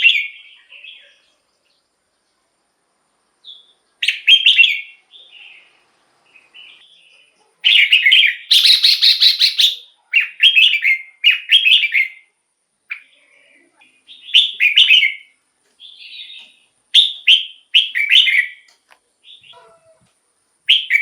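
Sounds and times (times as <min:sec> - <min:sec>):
bulbul singing: 0:03.4 - 0:20.0, 0:20.7 - 0:21.0.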